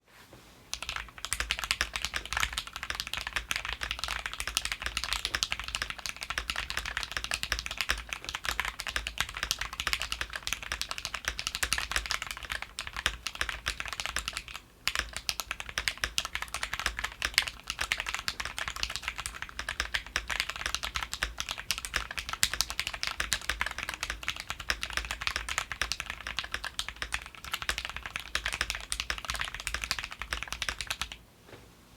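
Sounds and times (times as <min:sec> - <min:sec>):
mechanical keyboard typing: 0:00.7 - 0:31.2.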